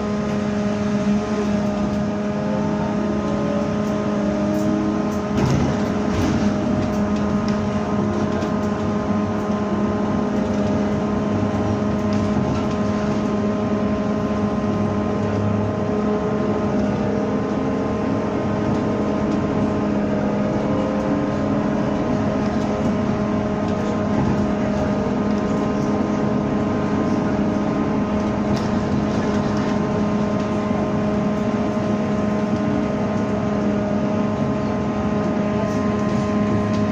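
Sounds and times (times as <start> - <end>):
road and tyre noise: 0.0 - 36.9.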